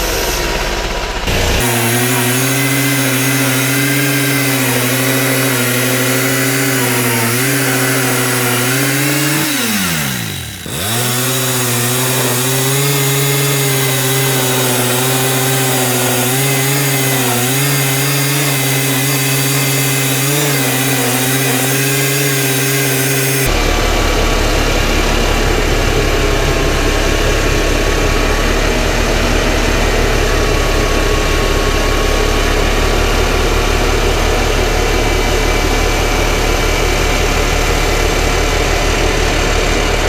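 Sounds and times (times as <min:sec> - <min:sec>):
gas engine running under load: 0:00.0 - 0:40.0
saw cutting wood: 0:00.0 - 0:40.0.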